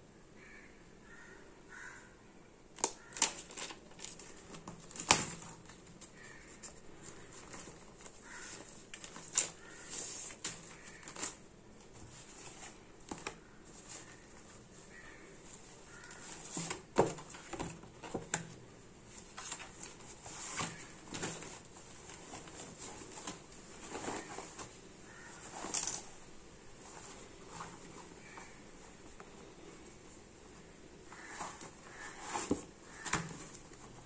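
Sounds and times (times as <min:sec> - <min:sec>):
cardboard insert rustling: 0:02.8 - 0:29.6, 0:31.1 - 0:34.0.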